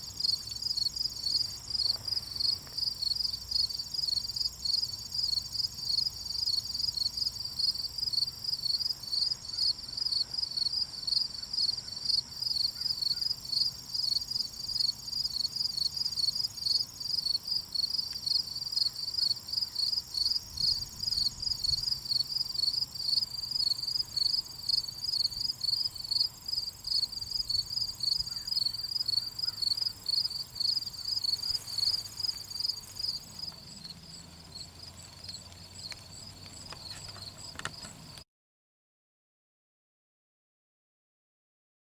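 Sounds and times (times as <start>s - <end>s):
insects chirping: 0.0s - 38.2s.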